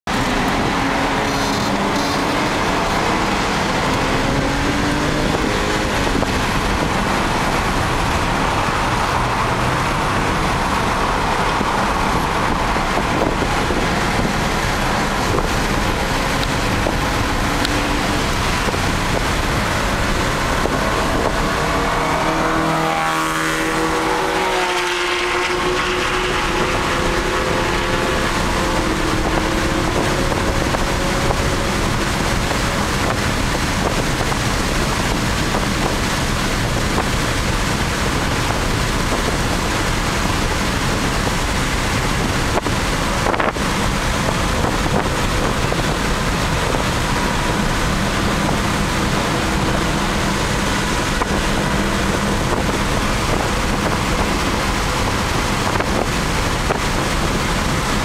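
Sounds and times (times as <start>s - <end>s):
road and wind noise: 0.0s - 58.0s
car engine from inside cabin: 0.1s - 58.0s.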